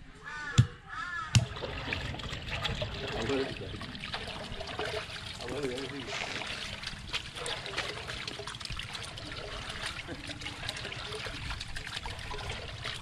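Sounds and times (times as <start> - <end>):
hands sloshing meat in water: 1.4 - 13.0
small splashes and trickles: 1.4 - 13.0.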